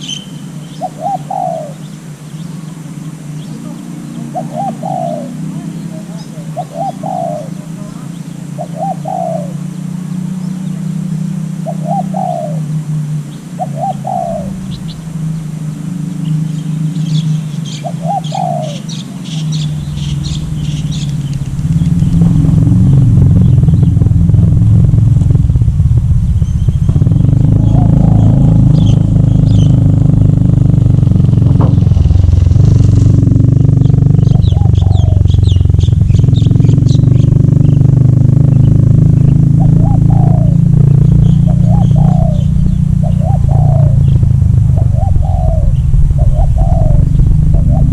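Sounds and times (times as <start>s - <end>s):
dove cooing: 0.0s - 11.0s, 11.6s - 24.6s, 26.5s - 47.9s
small birds chirping: 0.0s - 25.3s, 26.2s - 47.9s
loud low rumble: 0.0s - 47.9s.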